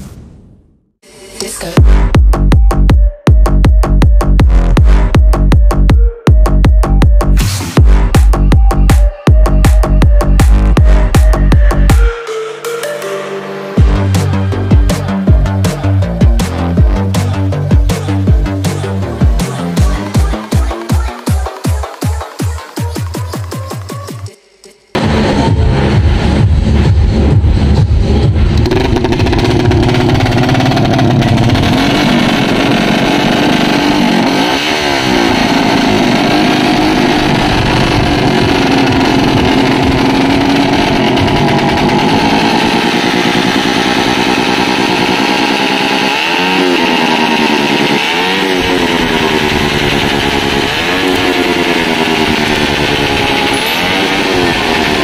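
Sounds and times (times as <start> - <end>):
motorcycle engine idling and revving: 1.8 - 12.3, 13.7 - 55.0.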